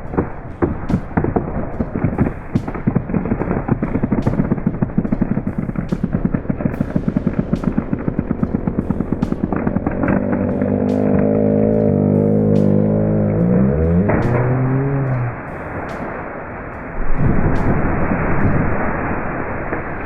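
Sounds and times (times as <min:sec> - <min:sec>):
music with drum beat: 0:00.0 - 0:17.8.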